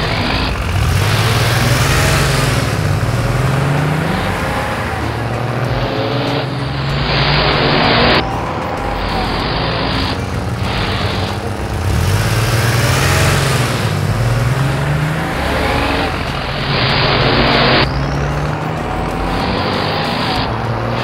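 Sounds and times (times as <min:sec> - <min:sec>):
engines running and revving: 0:00.0 - 0:21.0.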